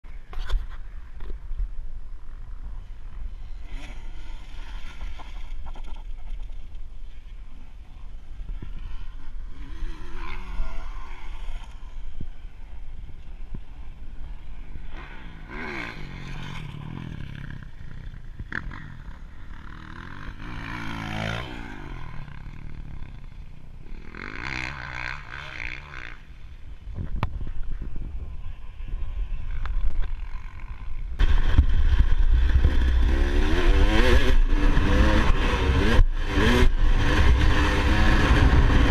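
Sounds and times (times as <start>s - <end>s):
dirt bike engines revving past: 2.1s - 38.9s.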